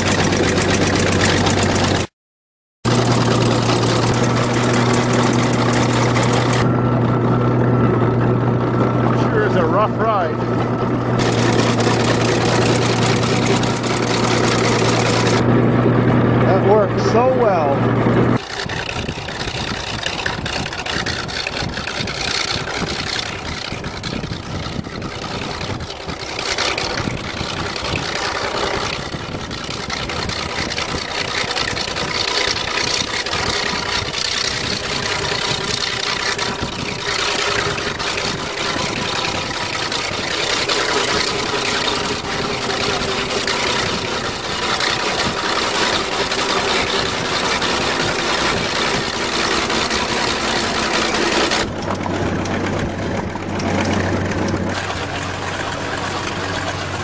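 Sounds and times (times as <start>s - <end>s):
engine running roughly: 0.0s - 2.1s, 2.8s - 57.0s
low engine hum: 0.0s - 2.1s, 2.8s - 57.0s.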